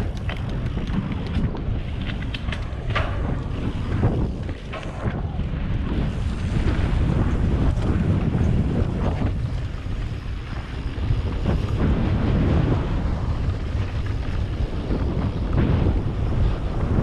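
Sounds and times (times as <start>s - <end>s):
tyres rumbling over dirt: 0.0s - 17.0s
wind buffeting microphone: 0.0s - 17.0s.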